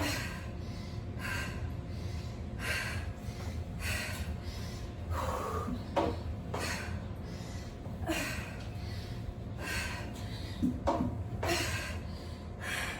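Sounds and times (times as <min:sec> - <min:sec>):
person breathing hard: 0:00.0 - 0:12.9.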